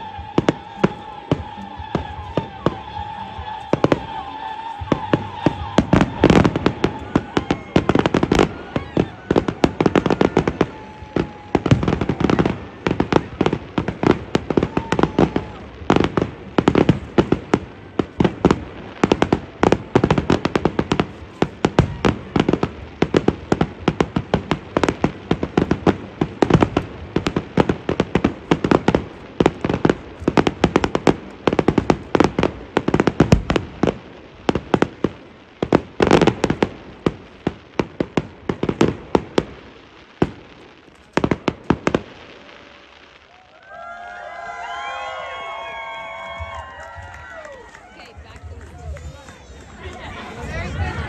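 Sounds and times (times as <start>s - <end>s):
fireworks bangs and cracks: 0.0s - 51.0s.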